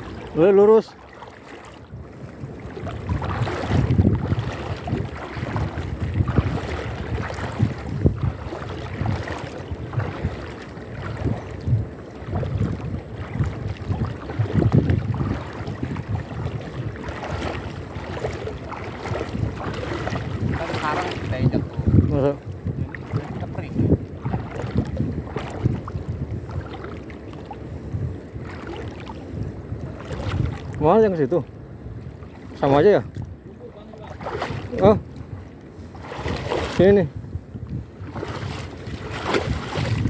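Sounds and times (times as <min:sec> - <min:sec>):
water sloshing around wading legs: 0:00.0 - 0:40.0
wind on microphone: 0:00.0 - 0:40.0.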